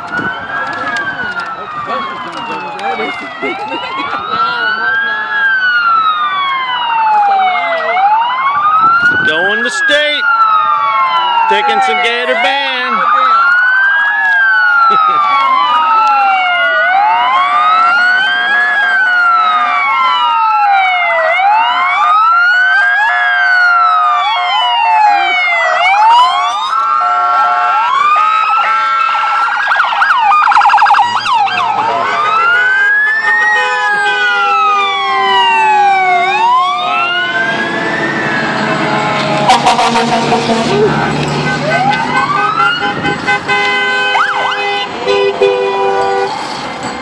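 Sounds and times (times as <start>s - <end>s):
sirens wailing: 0.0s - 47.0s
fast siren warble: 1.5s - 42.8s.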